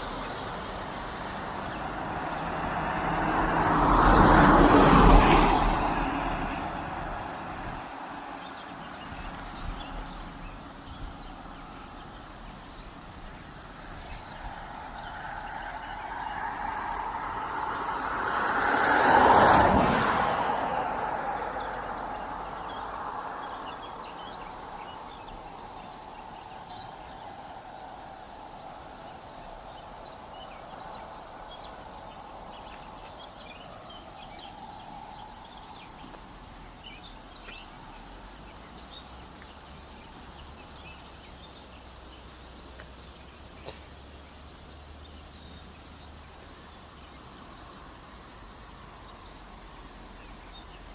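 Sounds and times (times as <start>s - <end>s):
vehicle passing by: 0.0s - 12.6s, 13.4s - 42.4s.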